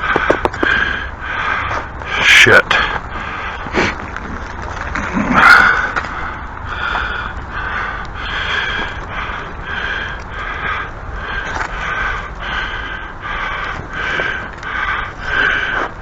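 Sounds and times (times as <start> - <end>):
man breathing heavily: 0.0 - 16.0.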